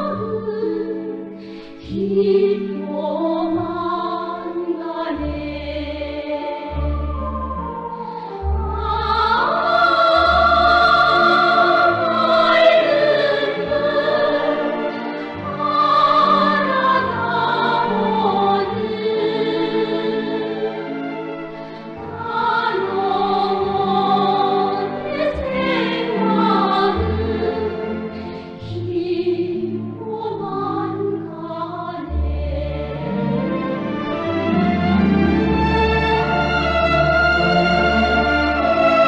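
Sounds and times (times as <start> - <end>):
choir singing operatic notes: 0.0 - 39.0
instrumental accompaniment: 0.0 - 39.0.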